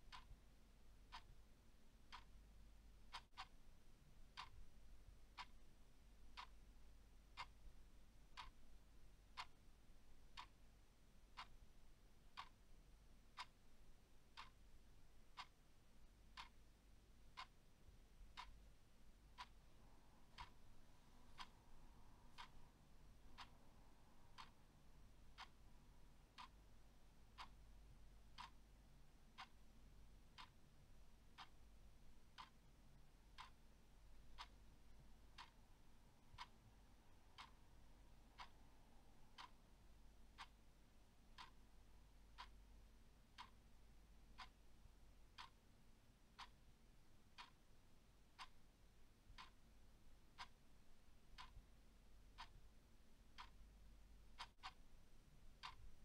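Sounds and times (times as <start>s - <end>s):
faint clock ticking: 0.0s - 56.0s.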